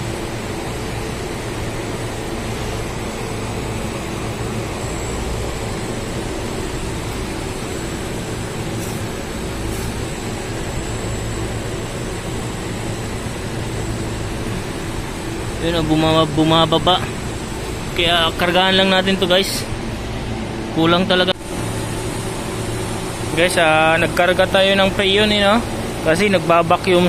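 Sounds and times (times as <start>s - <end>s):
compressor and fan whirring: 0.0s - 27.0s.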